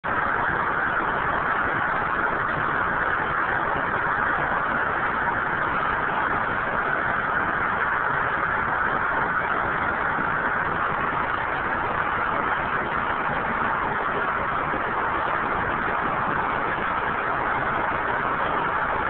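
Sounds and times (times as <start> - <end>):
steady rush of air: 0.0 - 19.0.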